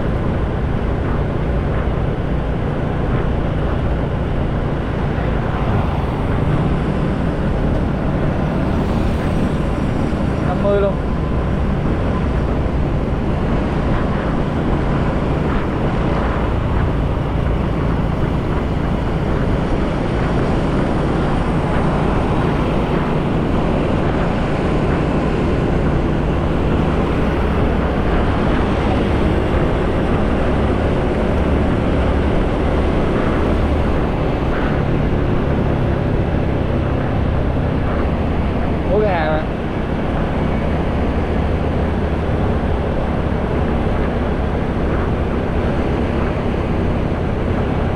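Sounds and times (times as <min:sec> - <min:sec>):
wind noise on microphone: 0:00.0 - 0:47.9.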